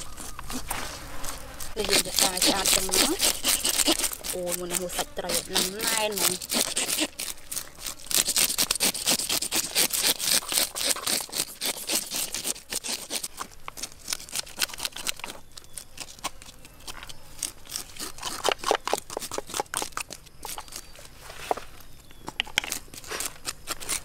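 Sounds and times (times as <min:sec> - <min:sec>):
fish scaler scraping scales: 0:00.0 - 0:20.9.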